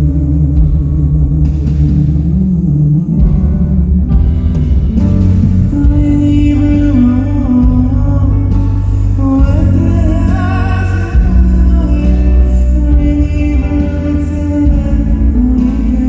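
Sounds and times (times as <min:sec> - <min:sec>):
guitar: 0:00.0 - 0:16.0
heavy bass line: 0:00.0 - 0:16.0
man singing pop ballad: 0:00.0 - 0:16.0.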